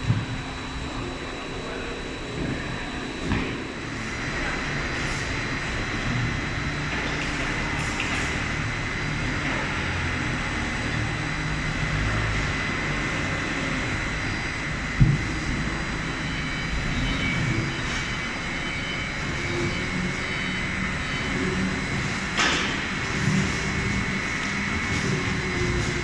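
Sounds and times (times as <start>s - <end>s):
rotary lathe running with whine: 0.0s - 26.0s.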